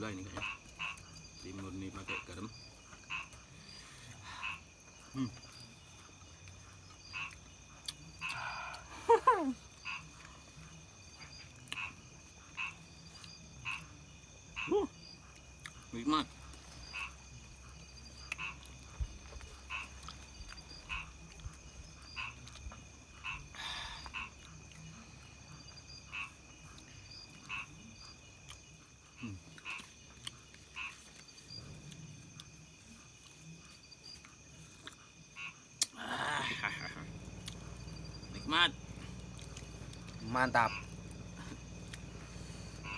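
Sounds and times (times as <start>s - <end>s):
frogs croaking: 0.0s - 42.9s
insects chirring: 0.0s - 42.9s.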